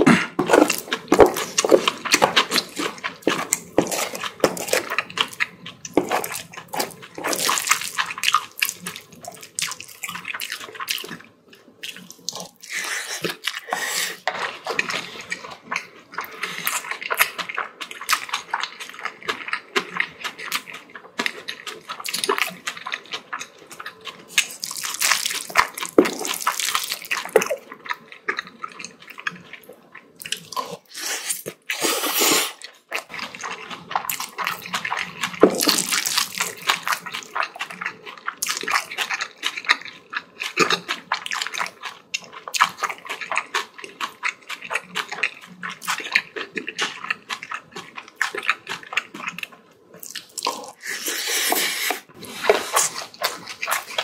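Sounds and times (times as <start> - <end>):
wet chewing and mouth sounds: 0.0 - 54.0.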